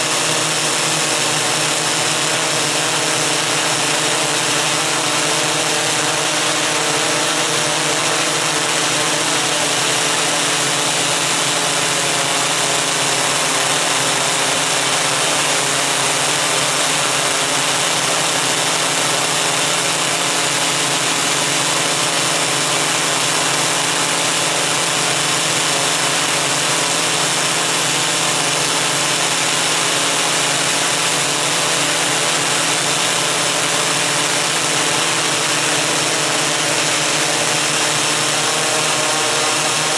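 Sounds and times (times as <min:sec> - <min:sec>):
multicopter motors droning: 0:00.0 - 0:39.9.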